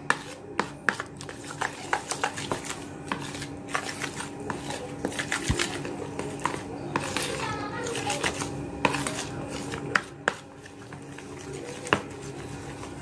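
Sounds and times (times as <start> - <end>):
metal spoon stirring paste in bowl: 0.0 - 13.0.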